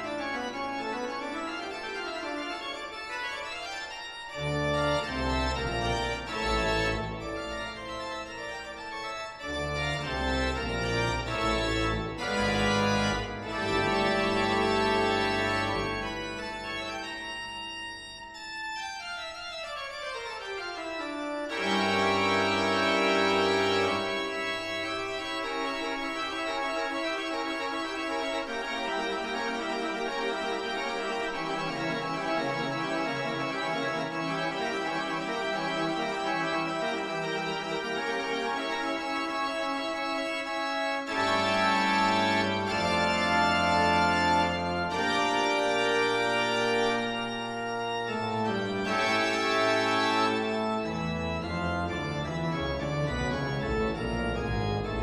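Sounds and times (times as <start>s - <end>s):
organ-like keyboard chords: 0.0s - 55.0s.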